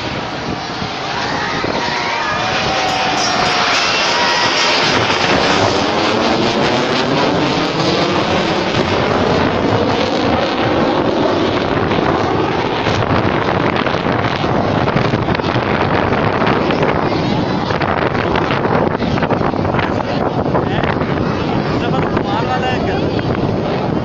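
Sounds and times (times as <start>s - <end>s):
jet engine roaring overhead: 0.0s - 24.0s
wind buffeting microphone: 0.0s - 24.0s.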